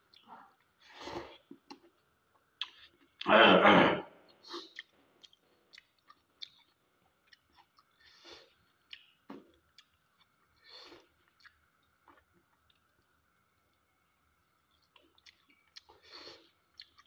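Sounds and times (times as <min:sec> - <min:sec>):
person chewing food: 0:00.1 - 0:03.2, 0:04.3 - 0:17.0.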